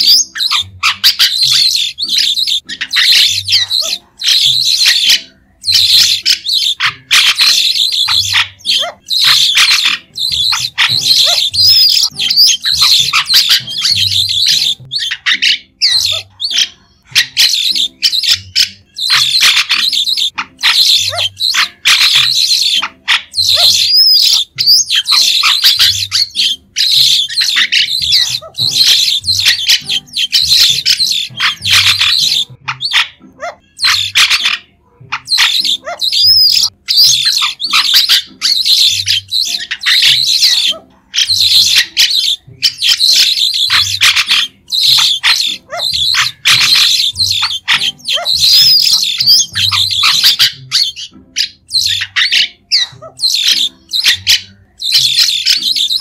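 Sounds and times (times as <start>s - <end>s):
starling chirping: 0.0s - 56.0s.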